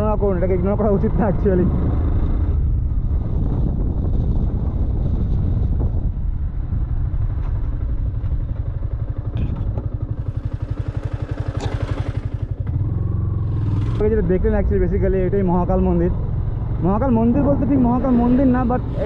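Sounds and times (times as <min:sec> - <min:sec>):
wind rumble on microphone: 0:00.0 - 0:11.4, 0:12.1 - 0:19.0
motorcycle engine running: 0:00.0 - 0:19.0.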